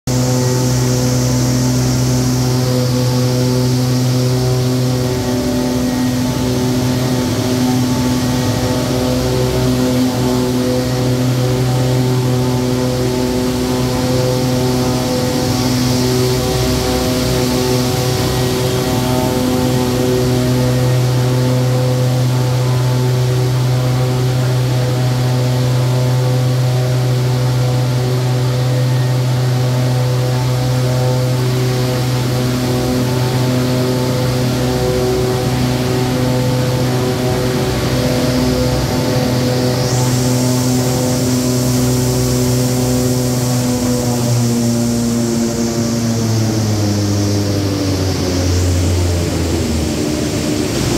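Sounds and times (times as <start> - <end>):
machine low hum with higher tones: 0.1 - 50.9.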